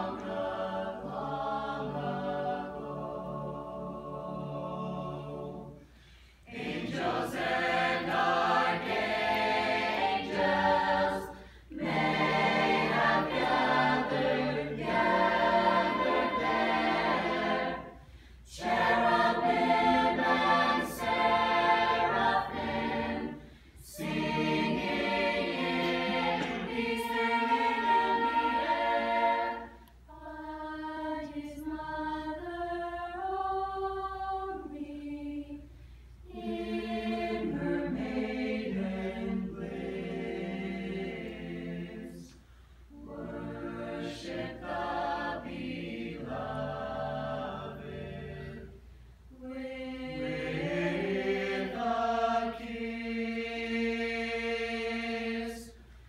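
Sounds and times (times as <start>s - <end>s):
mixed choir singing: 0.0s - 55.8s.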